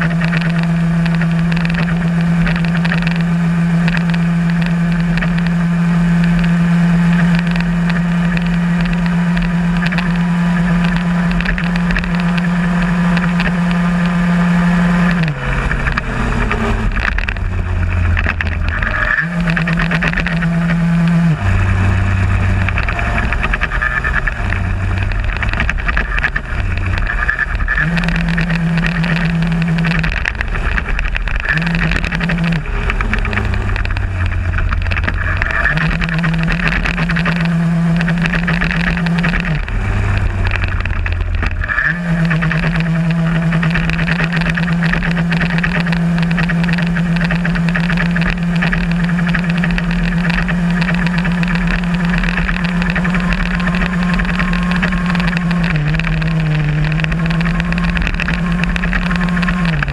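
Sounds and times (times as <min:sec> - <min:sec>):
moped two-stroke engine running: 0:00.0 - 0:59.9.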